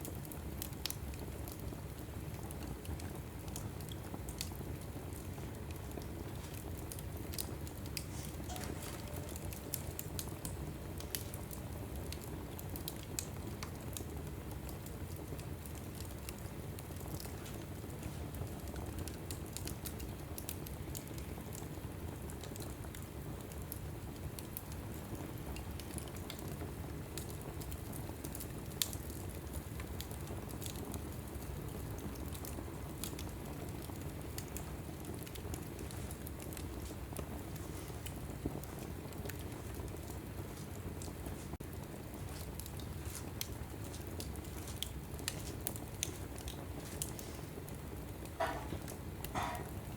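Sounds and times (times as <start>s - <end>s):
log fire crackling and popping: 0.0s - 49.9s
low rush of flame: 0.0s - 49.9s.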